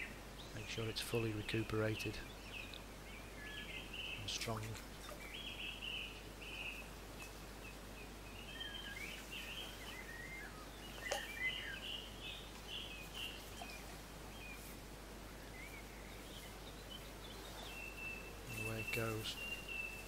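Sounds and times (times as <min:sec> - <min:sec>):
faint background noise: 0:00.0 - 0:20.0
small birds chirping: 0:00.0 - 0:20.0.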